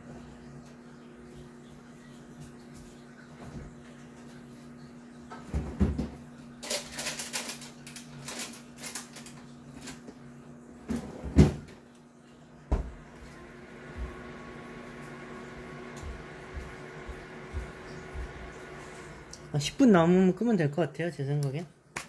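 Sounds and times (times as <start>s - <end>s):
microwave oven humming: 0.0s - 21.9s.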